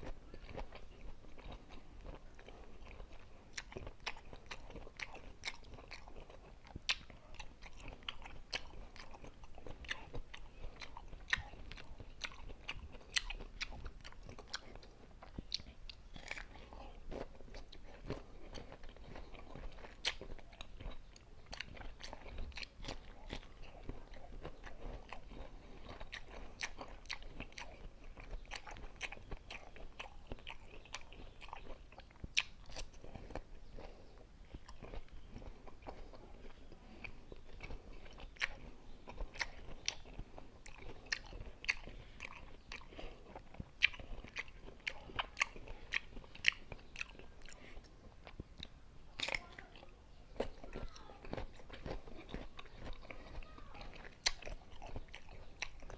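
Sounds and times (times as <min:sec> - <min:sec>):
crunchy chewing of mango: 0:00.0 - 0:55.9.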